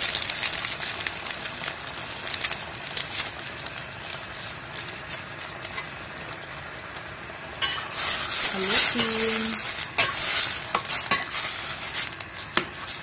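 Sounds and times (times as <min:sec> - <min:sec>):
sauce simmering with sizzle: 0:00.0 - 0:13.0.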